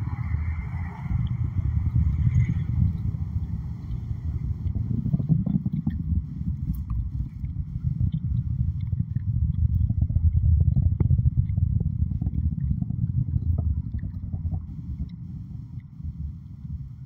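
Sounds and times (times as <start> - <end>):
distant rocket engine rumble: 0.0 - 17.0.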